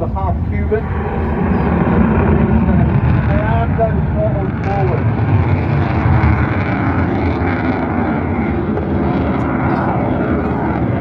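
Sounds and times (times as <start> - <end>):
jet engines at full power: 0.0 - 11.0.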